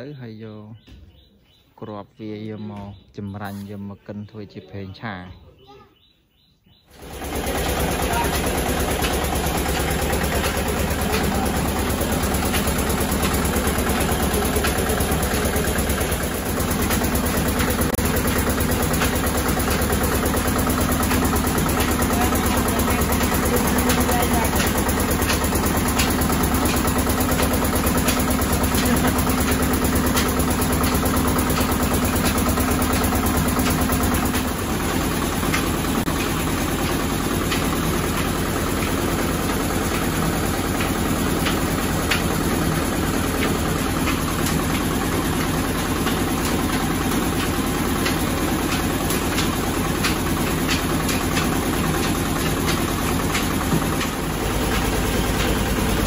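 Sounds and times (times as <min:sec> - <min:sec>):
oil press mechanical hum and rattle: 0:06.8 - 0:56.0
fine regular ticking: 0:07.0 - 0:56.0.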